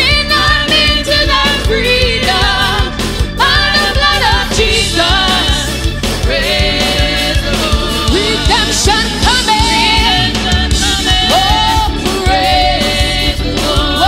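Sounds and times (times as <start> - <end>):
bass: 0.0 - 14.0
drums: 0.0 - 14.0
organ: 0.1 - 14.0.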